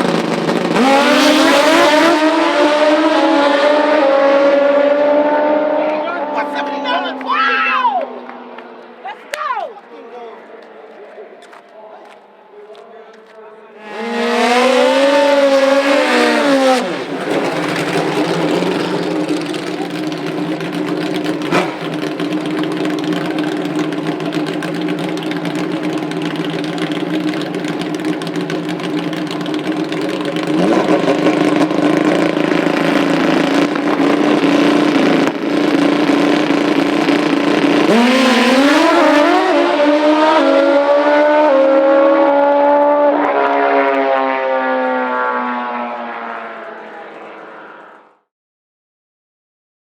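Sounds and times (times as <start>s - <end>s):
motorcycle engines revving: 0.0s - 12.2s, 13.2s - 48.2s.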